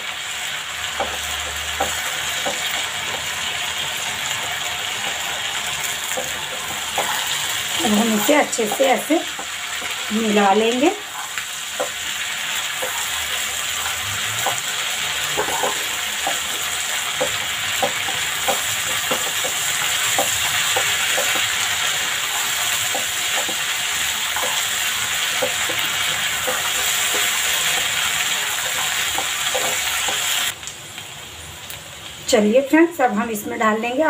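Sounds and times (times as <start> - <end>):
chickpeas sizzling in a pan: 0.0 - 34.0
spatula scraping and knocking pan: 0.8 - 30.5.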